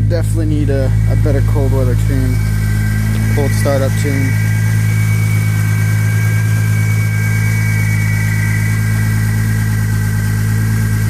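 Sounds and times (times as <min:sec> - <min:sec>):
car engine idling: 0:00.0 - 0:11.0
turbo high whistle: 0:00.0 - 0:11.0.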